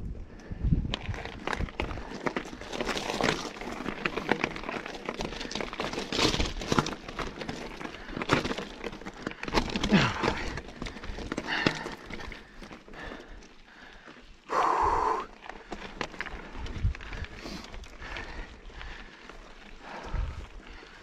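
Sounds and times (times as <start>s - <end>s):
bike rattling and knocking: 0.5s - 14.2s, 15.4s - 21.0s
tyres crunching over gravel: 0.9s - 21.0s.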